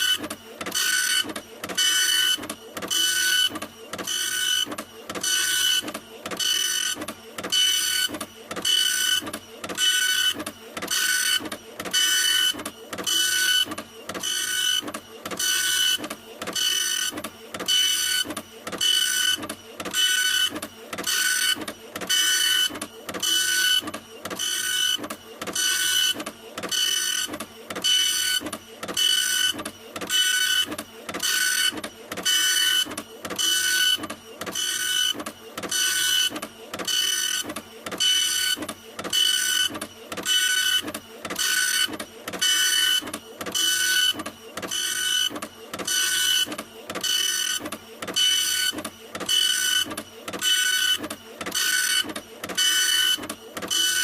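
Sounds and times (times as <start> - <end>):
printer running: 0.0 - 54.0.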